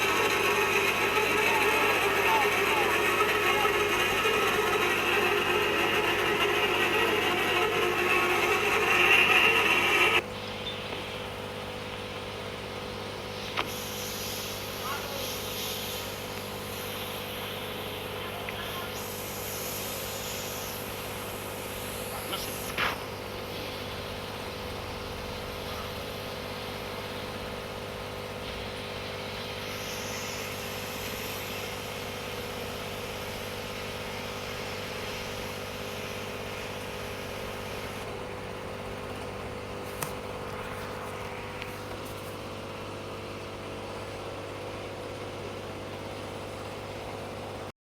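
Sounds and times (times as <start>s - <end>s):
machinery humming: 0.0s - 47.6s.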